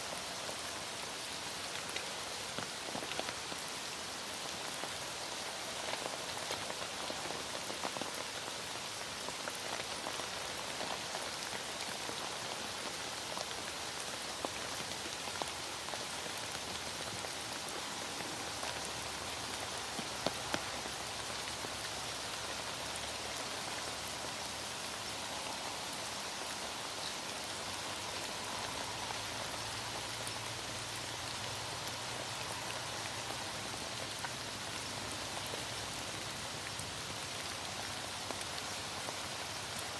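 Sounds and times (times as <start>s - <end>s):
heavy rain hiss: 0.0s - 39.9s
raindrops ticking on a surface: 0.0s - 39.9s.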